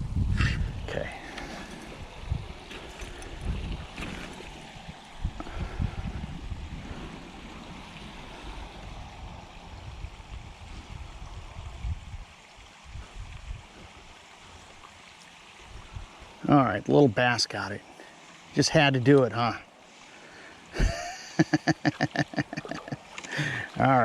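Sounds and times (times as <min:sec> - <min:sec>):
water noise: 0:00.0 - 0:24.0.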